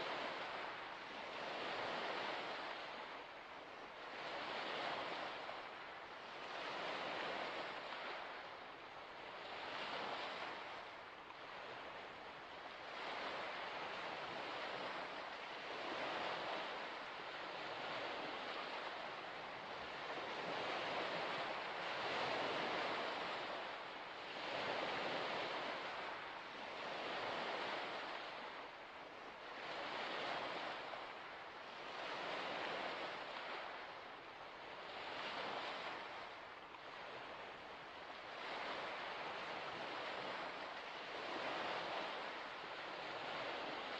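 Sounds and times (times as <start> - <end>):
waves washing onto shore: 0.0 - 43.9.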